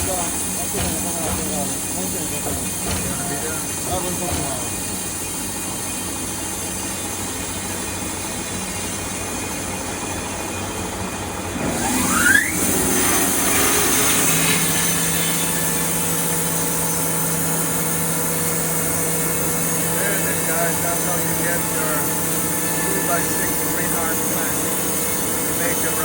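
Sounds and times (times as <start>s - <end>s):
sawmill machinery running: 0.0s - 26.0s
steady hum: 0.0s - 26.0s.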